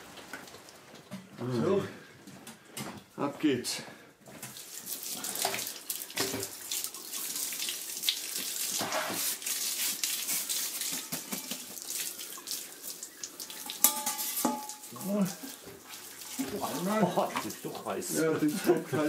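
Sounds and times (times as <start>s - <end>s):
water running and splashing: 0.0s - 1.3s, 4.2s - 19.0s.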